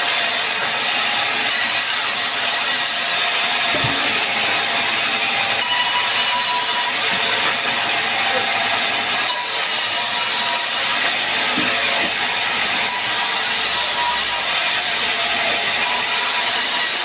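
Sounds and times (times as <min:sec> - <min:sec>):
bandsaw cutting timber: 0:00.0 - 0:17.0.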